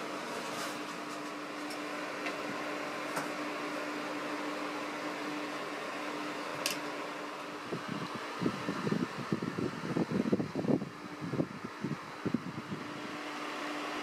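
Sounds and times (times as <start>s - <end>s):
desk fan humming: 0.0s - 14.0s.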